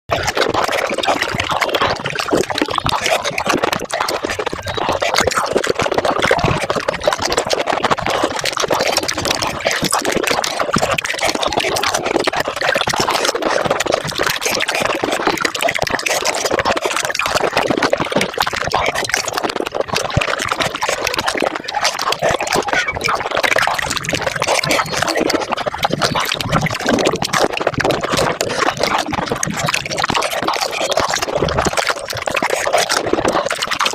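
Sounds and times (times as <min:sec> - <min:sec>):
water slurping: 0:00.1 - 0:33.9.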